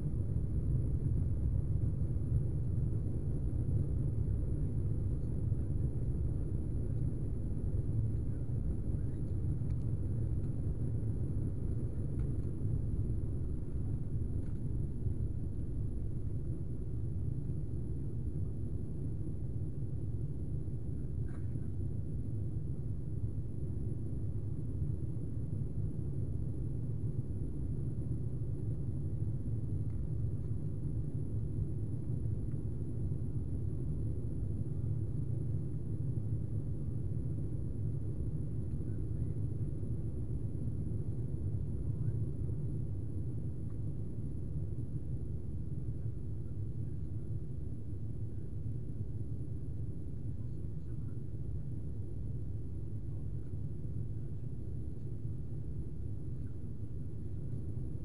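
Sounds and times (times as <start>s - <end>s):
airliner engines rumbling in cabin: 0.0s - 58.0s.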